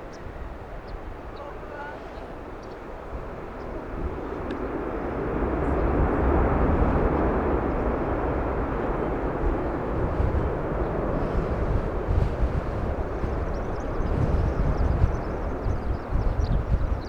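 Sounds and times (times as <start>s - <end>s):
jet airliner engine noise: 0.0s - 17.0s
wind buffeting microphone: 0.0s - 17.0s.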